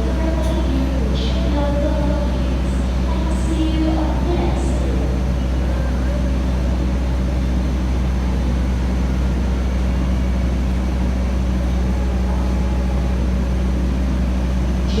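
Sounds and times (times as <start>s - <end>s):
train rumble and engine hum: 0.0s - 15.0s.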